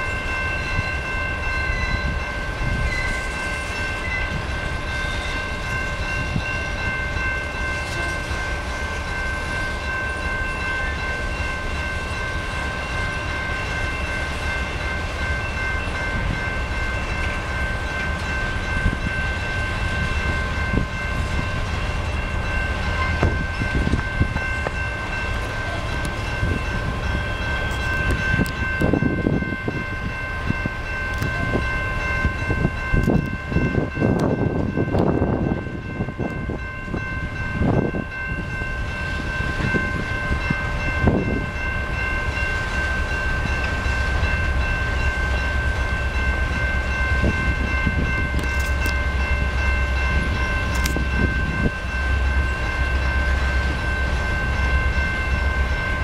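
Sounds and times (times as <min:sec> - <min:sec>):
high ringing tones: 0:00.0 - 0:56.0
low train rumble: 0:00.0 - 0:56.0.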